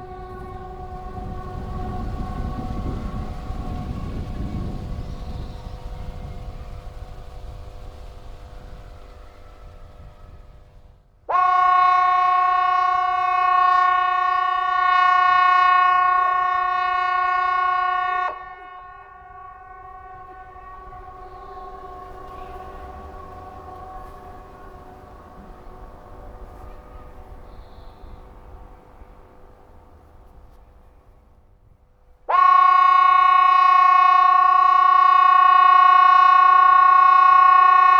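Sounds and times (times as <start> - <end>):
warning siren steady tone: 0.0 - 31.1, 32.2 - 37.9
faint siren tones: 0.0 - 31.4, 32.1 - 37.9.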